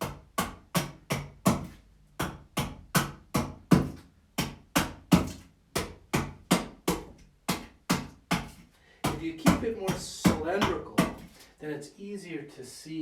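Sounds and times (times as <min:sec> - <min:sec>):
axe chopping wood: 0:00.0 - 0:11.4.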